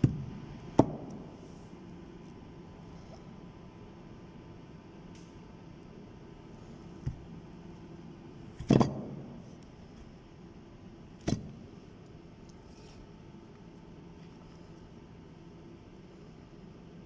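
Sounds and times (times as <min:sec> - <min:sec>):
low workshop hum: 0:00.0 - 0:17.0.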